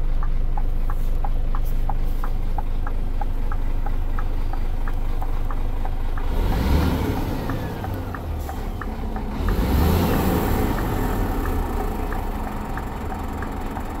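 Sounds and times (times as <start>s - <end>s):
truck diesel engine accelerating: 0.0s - 14.0s
turn signal ticking: 0.0s - 14.0s.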